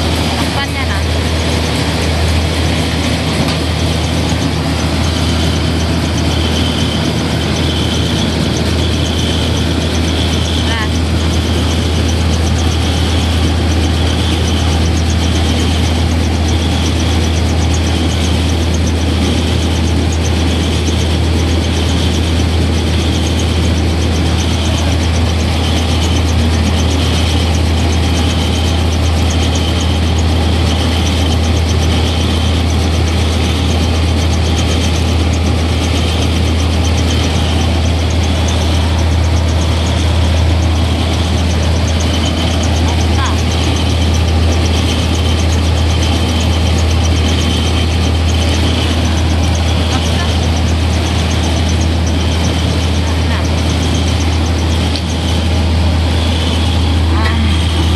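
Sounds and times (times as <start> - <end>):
rice milling machine humming: 0.0 - 57.9.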